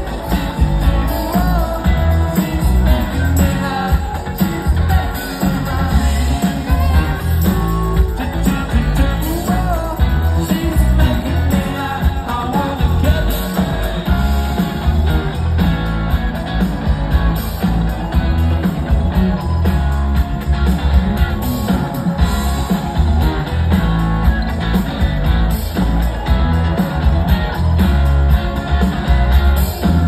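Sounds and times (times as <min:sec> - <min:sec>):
electric guitar: 0:00.0 - 0:30.0
heavy bass: 0:00.0 - 0:30.0
steady drum beat: 0:00.0 - 0:30.0.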